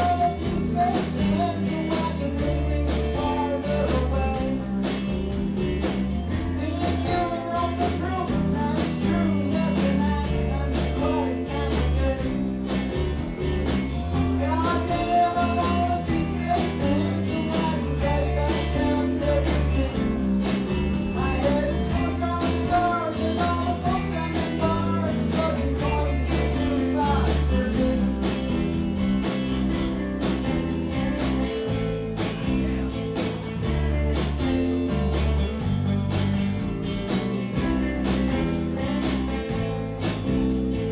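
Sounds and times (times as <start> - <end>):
bending lead guitar melody: 0.0 - 40.9
live rock band playing: 0.0 - 40.9.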